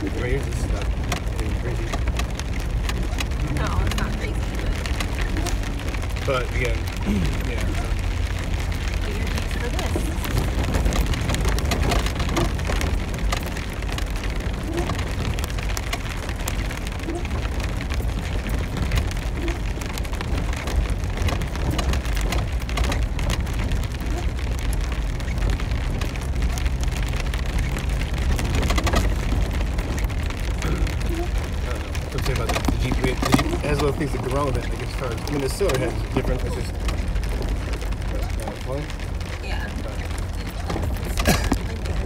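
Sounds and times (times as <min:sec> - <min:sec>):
car engine and tyres rumbling: 0:00.0 - 0:42.0
rain hitting car roof: 0:00.0 - 0:42.0.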